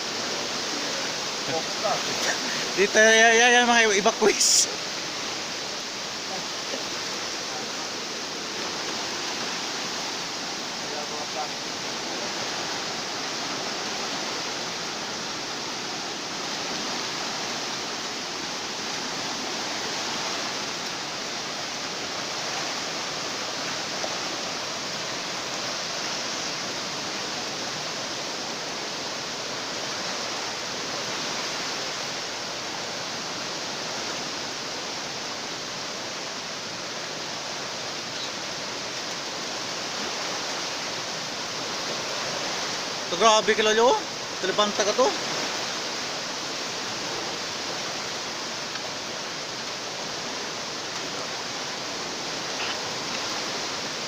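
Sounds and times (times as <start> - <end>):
floodwater rushing: 0.0 - 54.0
heavy rain: 0.0 - 54.0.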